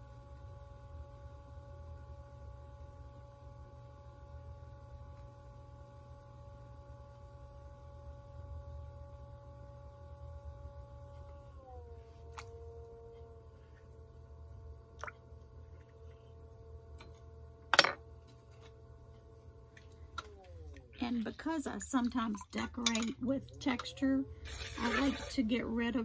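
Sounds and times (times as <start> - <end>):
potter's wheel motor whine: 0.0 - 26.0.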